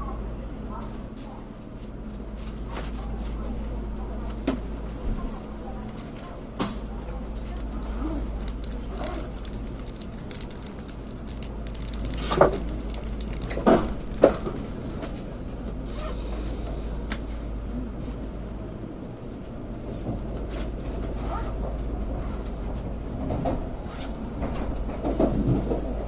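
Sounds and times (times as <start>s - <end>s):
train car low hum: 0.0s - 26.0s.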